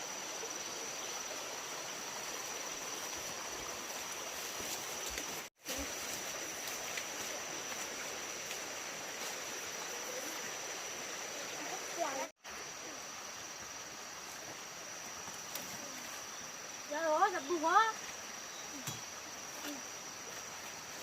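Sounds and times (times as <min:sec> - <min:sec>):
high insect drone: 0:00.0 - 0:21.0
running water rushing: 0:00.0 - 0:21.0.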